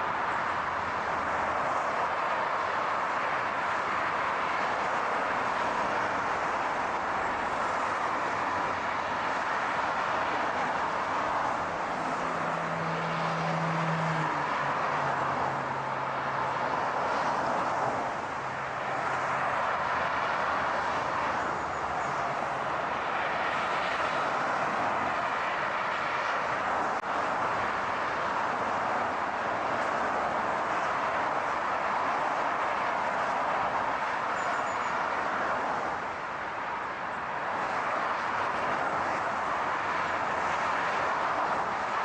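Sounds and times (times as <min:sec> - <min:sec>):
moving car rushing noise: 0:00.0 - 0:34.3.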